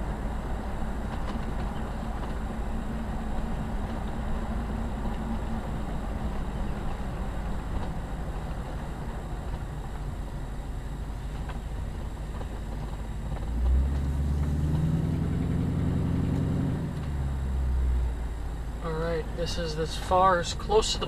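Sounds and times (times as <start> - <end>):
car engine and tyre noise: 0.0 - 21.0
low hum: 0.0 - 21.0.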